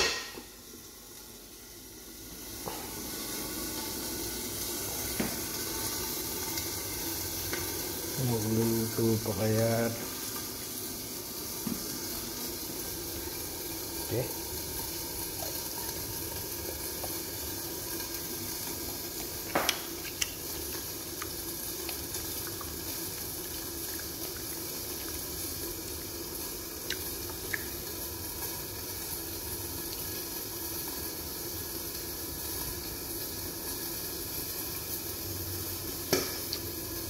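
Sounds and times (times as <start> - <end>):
chicken sizzling: 0.0 - 37.0.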